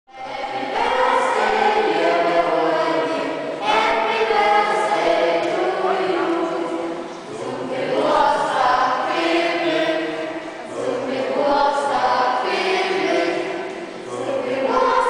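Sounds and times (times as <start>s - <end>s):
youth choir singing: 0.1s - 15.0s.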